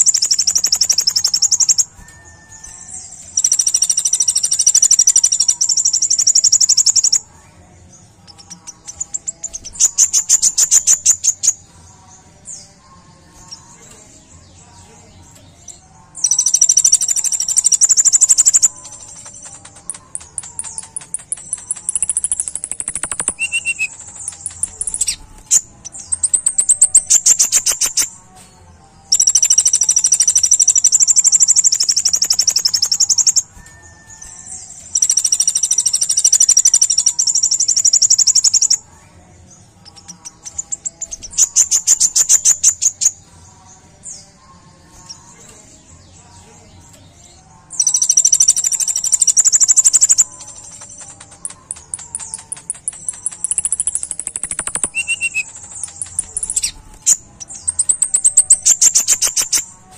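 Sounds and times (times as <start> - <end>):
bird singing trills and clicks: 0.0 - 7.3, 8.2 - 11.6, 15.3 - 28.2, 29.1 - 38.8, 39.8 - 43.2, 46.9 - 59.7.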